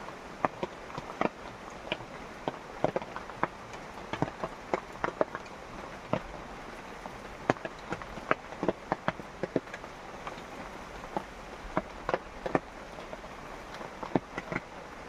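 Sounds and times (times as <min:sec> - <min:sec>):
large raindrops ticking: 0:00.0 - 0:15.0
steady rain hiss: 0:00.0 - 0:15.0.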